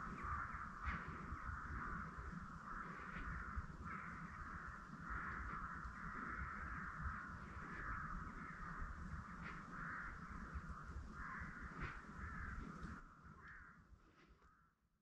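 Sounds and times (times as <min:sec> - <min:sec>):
harsh bird calls: 0:00.0 - 0:13.9.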